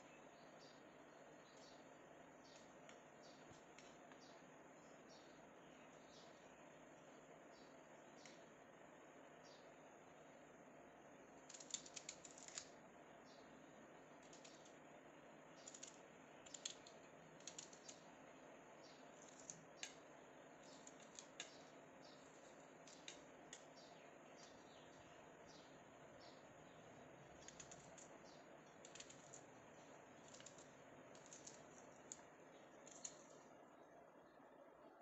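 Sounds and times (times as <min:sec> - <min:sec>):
low background hiss: 0:00.0 - 0:35.0.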